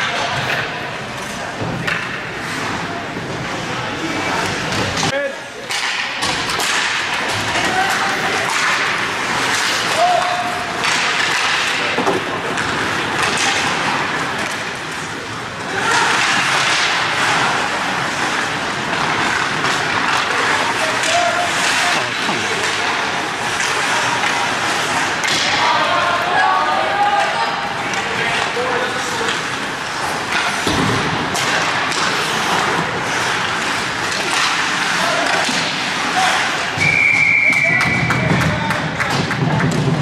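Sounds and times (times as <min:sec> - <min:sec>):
hockey sticks and puck clacking: 0:00.0 - 0:40.0
skates scraping ice: 0:00.0 - 0:40.0.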